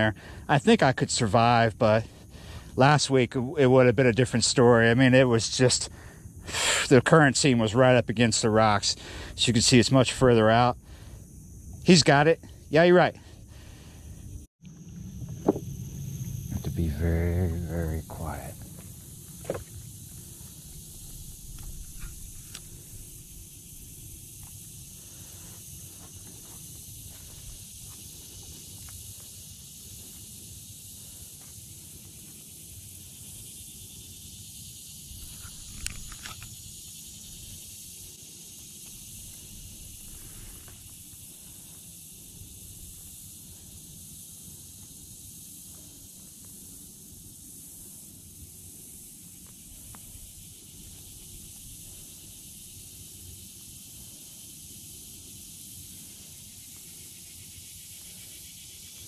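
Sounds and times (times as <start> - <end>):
high-pitched hiss: 0.0 - 59.0.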